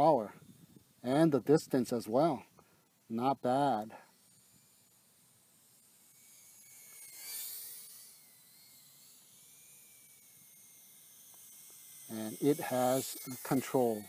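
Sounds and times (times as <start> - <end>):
high-pitched drone whine: 0.0 - 14.0.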